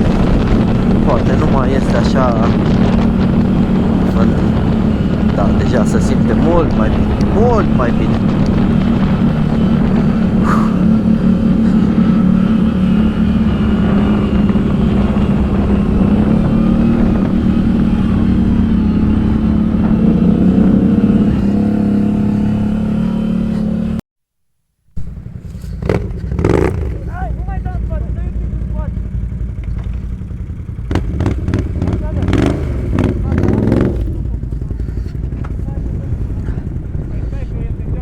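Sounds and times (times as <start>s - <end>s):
low rumble: 0.0s - 23.0s, 25.0s - 38.0s
atv engine running: 0.0s - 24.0s, 25.0s - 38.0s.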